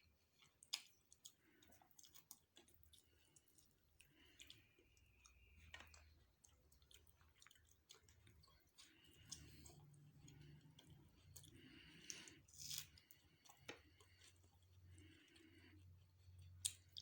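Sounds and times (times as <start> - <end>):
close chewing with mouth clicks: 0.0 - 17.0.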